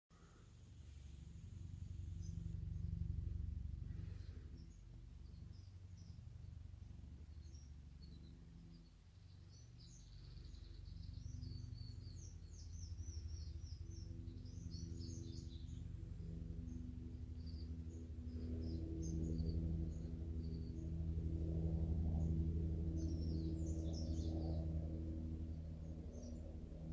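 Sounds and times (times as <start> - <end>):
distant helicopter rotor thrum: 0.2 - 26.9
small birds chirping: 0.2 - 26.9.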